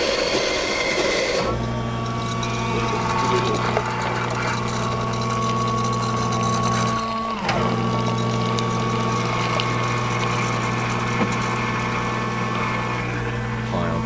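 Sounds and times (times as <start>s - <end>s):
coffee machine pump humming: 0.0s - 14.0s.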